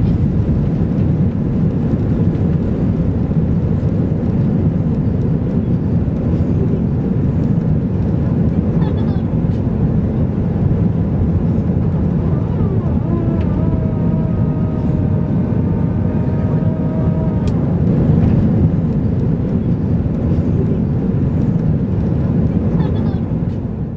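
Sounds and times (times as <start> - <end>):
jet engines roaring on takeoff: 0.0 - 23.9.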